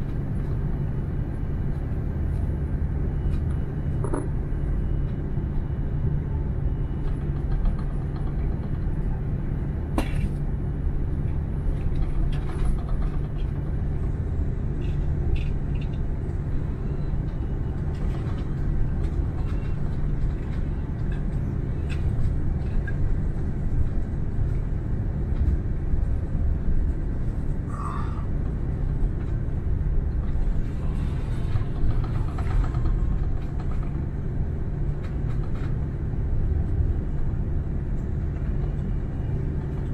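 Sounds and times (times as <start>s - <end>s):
airplane cabin rumble while taxiing: 0.0s - 39.9s.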